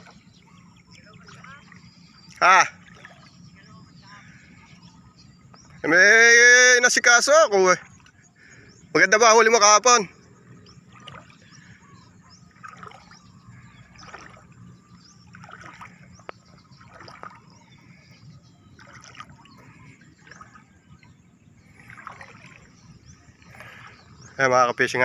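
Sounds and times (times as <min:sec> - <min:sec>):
faint water splashing: 0:00.0 - 0:25.0.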